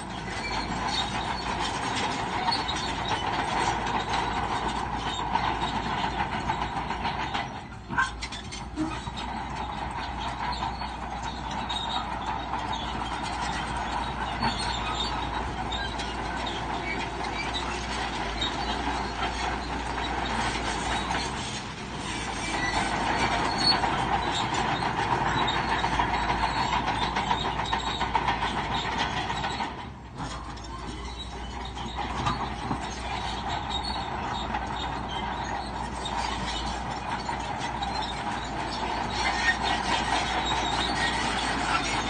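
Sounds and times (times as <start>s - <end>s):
bulldozer engine: 0.0s - 42.0s
bulldozer tracks clanking and squealing: 0.0s - 42.0s.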